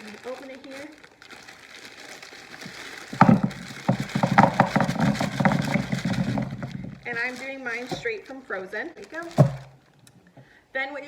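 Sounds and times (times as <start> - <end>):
frozen meatballs clattering into plastic: 0.0 - 10.0.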